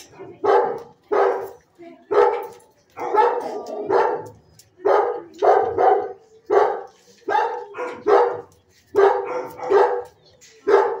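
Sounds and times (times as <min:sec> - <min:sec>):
dog barking: 0:00.2 - 0:01.5, 0:02.1 - 0:11.0.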